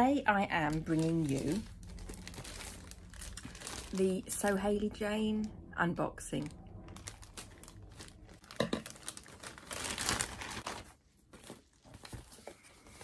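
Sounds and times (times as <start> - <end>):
plastic mailing bag crinkling: 0.3 - 5.4, 6.4 - 12.5.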